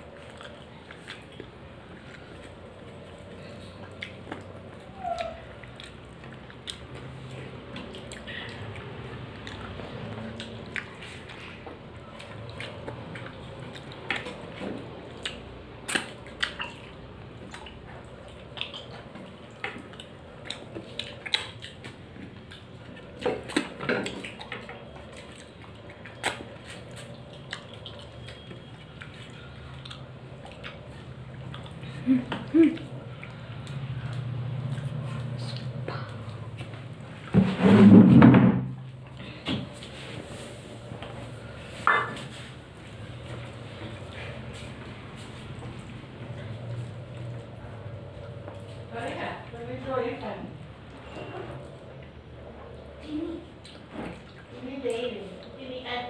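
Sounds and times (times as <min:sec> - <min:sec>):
quiet chewing: 0:00.0 - 0:37.4, 0:38.9 - 0:55.8
low steady hum: 0:00.0 - 0:56.0.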